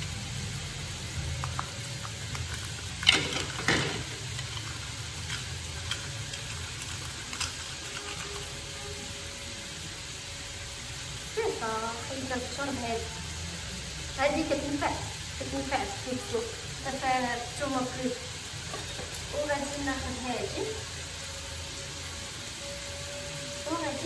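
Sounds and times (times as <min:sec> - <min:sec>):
chicken sizzling in butter: 0:00.0 - 0:24.0.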